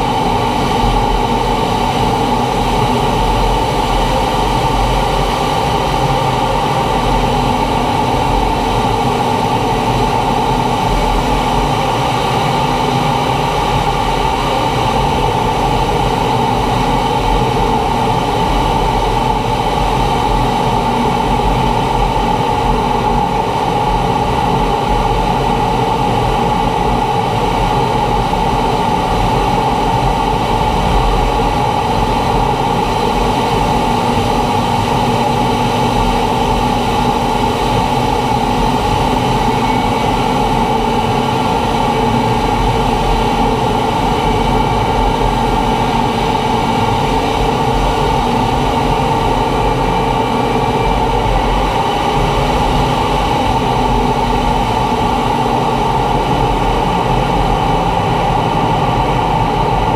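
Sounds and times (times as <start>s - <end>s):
jet aircraft in flight: 0.0s - 59.9s.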